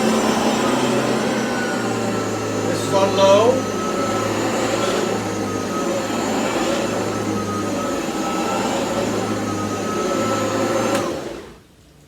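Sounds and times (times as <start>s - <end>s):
cordless vacuum running on carpet: 0.0s - 11.6s.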